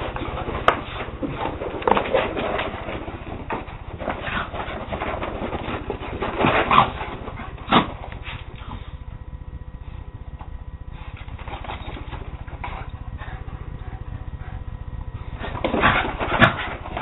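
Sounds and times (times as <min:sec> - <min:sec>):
dogs play-fighting noises: 0:00.0 - 0:09.2, 0:10.0 - 0:17.0.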